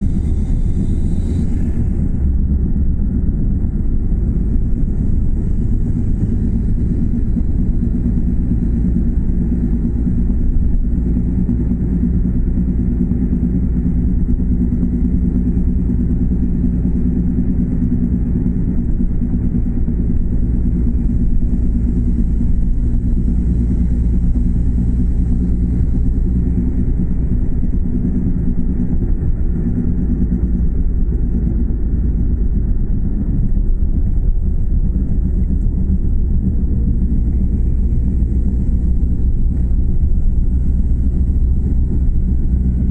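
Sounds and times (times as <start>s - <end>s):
car running noise: 0.0s - 42.9s.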